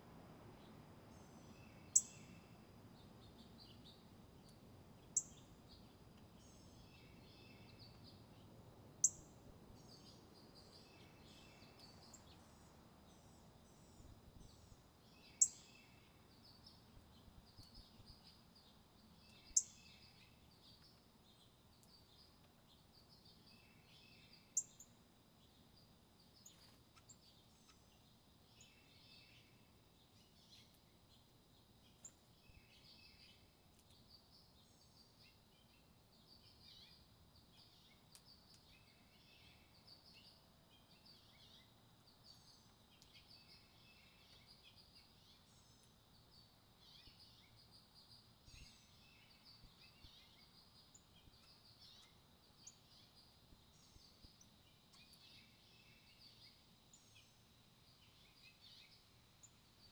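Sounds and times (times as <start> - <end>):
soft twittering bird chirps: 0.6 - 59.9.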